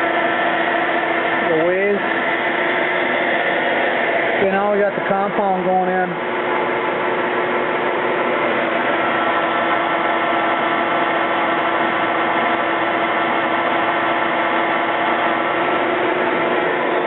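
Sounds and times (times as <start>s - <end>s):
lathe running with whine: 0.0s - 17.0s.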